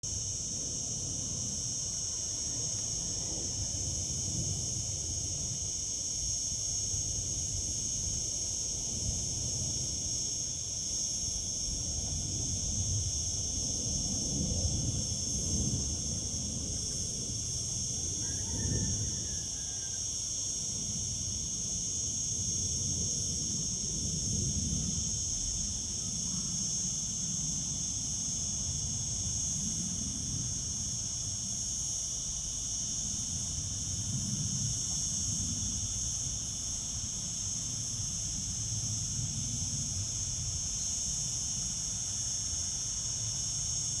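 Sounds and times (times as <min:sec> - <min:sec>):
cicadas droning: 0:00.0 - 0:44.0.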